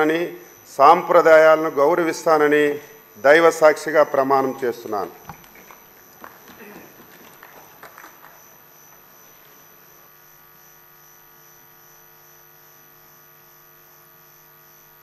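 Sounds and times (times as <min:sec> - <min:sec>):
electrical hum: 0:00.0 - 0:15.0
faint high whine: 0:00.0 - 0:15.0.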